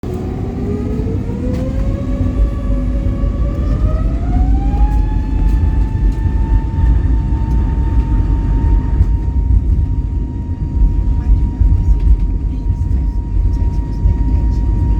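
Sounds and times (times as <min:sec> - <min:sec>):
deep engine rumble: 0:00.0 - 0:14.9
jet engine fan whine: 0:00.0 - 0:14.9.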